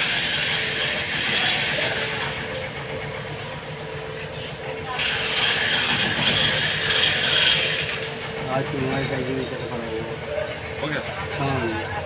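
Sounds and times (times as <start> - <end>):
mixer grinder motor whirring: 0.0 - 11.8.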